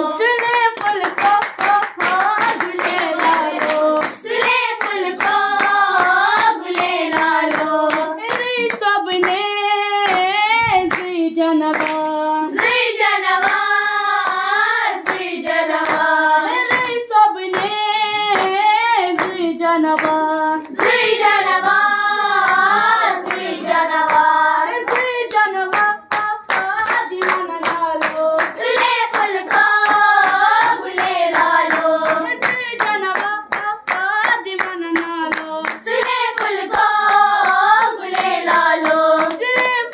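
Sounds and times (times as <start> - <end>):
girls singing in unison: 0.0 - 39.9
hands clapping in rhythm: 0.0 - 39.9.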